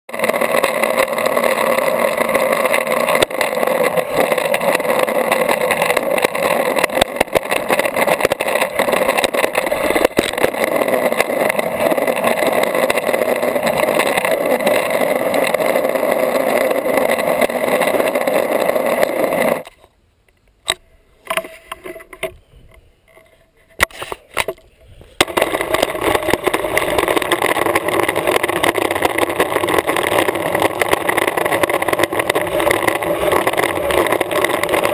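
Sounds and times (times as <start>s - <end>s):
clicks from pavement: 0.1s - 34.9s
longboard wheels rolling on asphalt: 0.1s - 34.9s.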